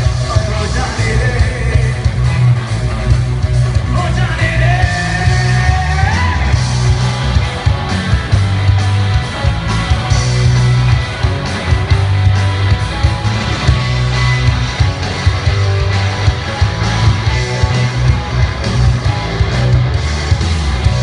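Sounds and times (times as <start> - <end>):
live rock band: 0.0 - 21.0.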